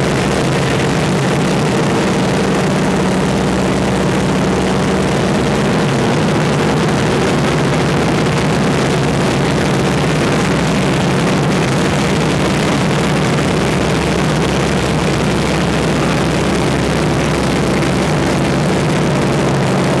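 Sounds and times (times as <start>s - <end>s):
radial engine and propeller droning: 0.0s - 20.0s.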